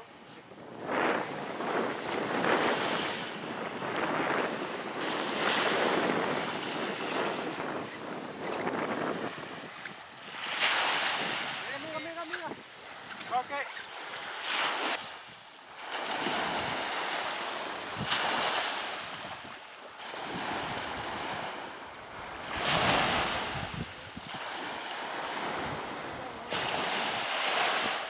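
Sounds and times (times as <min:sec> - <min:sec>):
wind on microphone: 0:00.0 - 0:13.5, 0:14.1 - 0:28.0
waves breaking on shore: 0:00.0 - 0:28.0.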